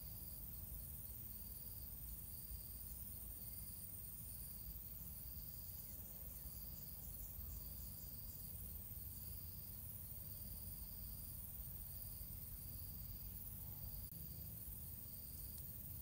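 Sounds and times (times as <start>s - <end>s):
faint high insect-like chirping: 0.0s - 16.0s.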